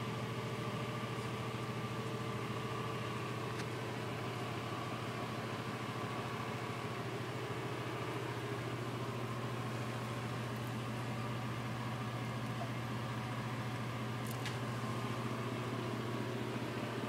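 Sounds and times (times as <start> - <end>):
exhaust fan humming: 0.0 - 17.0.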